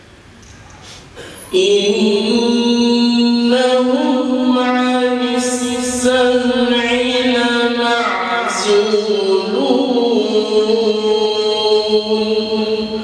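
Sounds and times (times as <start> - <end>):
man chanting recitation: 1.4 - 13.0.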